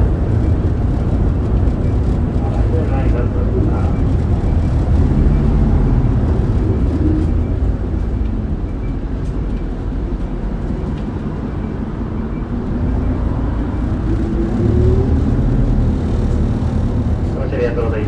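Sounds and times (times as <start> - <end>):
bus diesel engine: 0.0 - 18.0
road rumble: 0.0 - 18.0.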